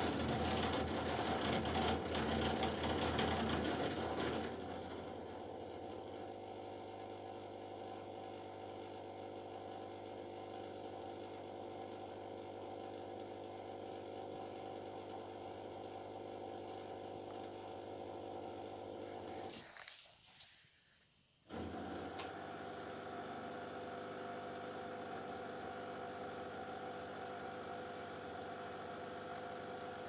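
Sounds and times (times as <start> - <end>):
washing machine pump humming: 0.0 - 19.6, 21.5 - 30.0.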